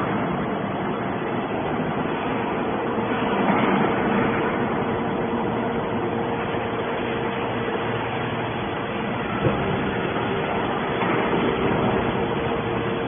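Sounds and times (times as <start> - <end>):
factory noise: 0.0 - 13.0
hydraulic power unit humming: 0.0 - 13.0.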